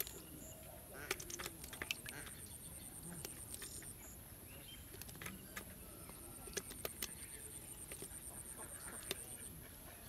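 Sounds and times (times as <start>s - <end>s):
bird chirps: 0.0s - 0.9s, 2.0s - 10.0s.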